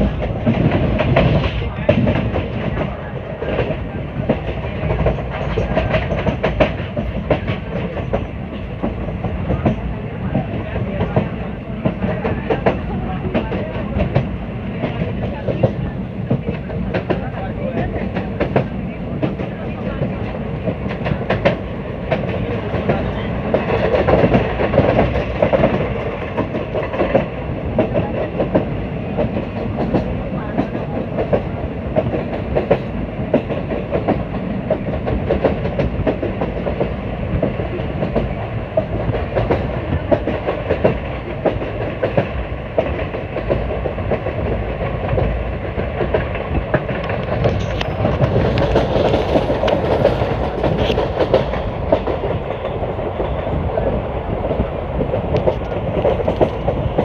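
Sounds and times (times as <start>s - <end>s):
rapid clicking and clacking: 0.0s - 57.0s
train wheels rumbling on rail: 0.0s - 57.0s.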